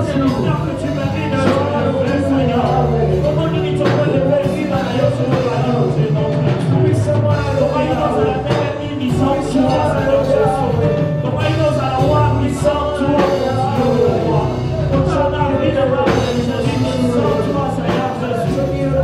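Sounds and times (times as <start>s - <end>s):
bass: 0.0s - 19.0s
voices singing: 0.0s - 19.0s
worship band playing: 0.0s - 19.0s.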